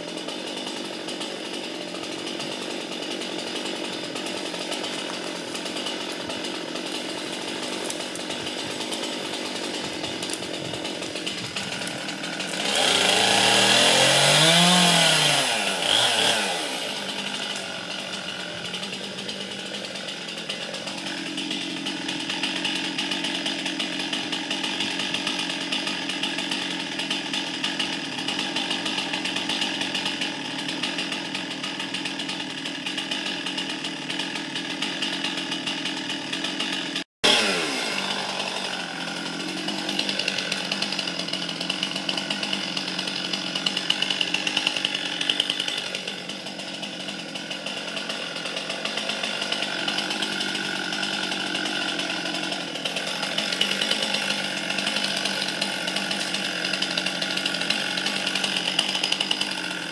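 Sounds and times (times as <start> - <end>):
chainsaw engine cutting shrubs: 0.0 - 59.9.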